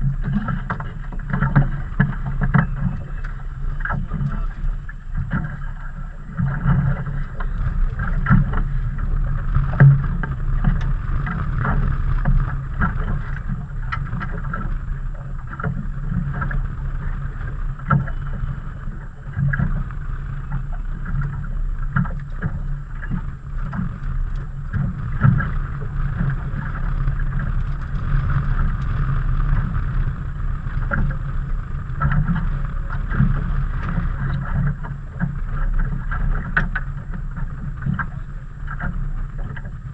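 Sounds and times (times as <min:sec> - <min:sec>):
water on a boat hull: 0:00.0 - 0:39.9
wind: 0:00.0 - 0:39.9.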